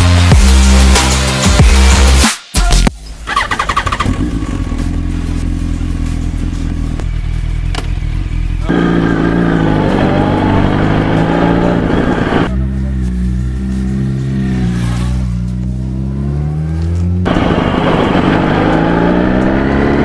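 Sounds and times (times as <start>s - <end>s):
motorcycle engine running: 3.0s - 20.0s.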